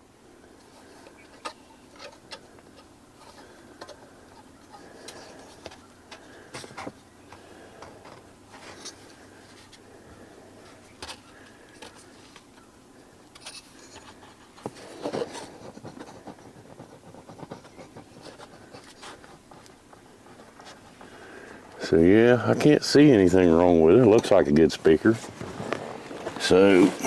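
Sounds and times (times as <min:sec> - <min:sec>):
scraping rustle: 0:00.6 - 0:12.6, 0:13.3 - 0:27.0
handling noise of speaker: 0:00.6 - 0:12.7, 0:13.4 - 0:27.0.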